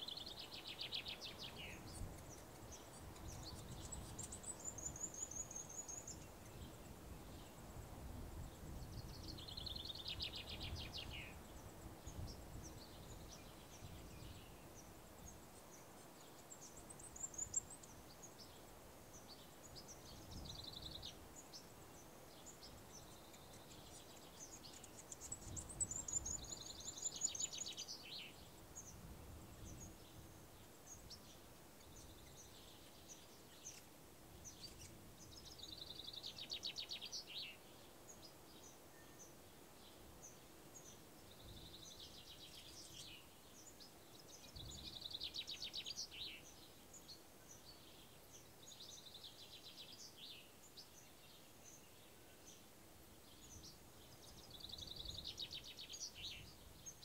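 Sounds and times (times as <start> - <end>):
birds singing trills: 0.0 - 57.0.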